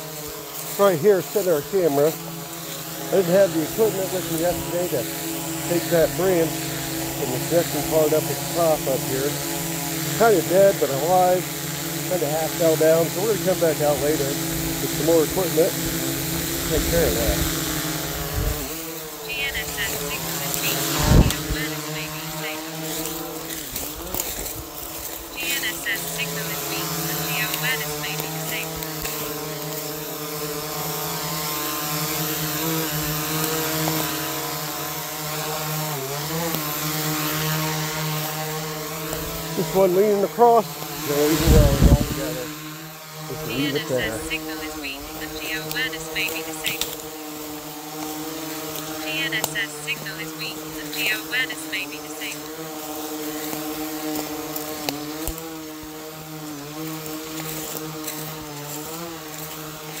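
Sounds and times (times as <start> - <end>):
drone propellers whining: 0.0 - 55.7.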